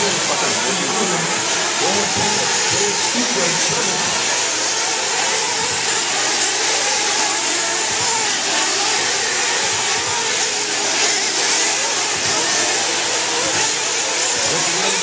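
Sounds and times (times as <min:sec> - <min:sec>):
rc car engines buzzing and revving: 0:00.0 - 0:15.0.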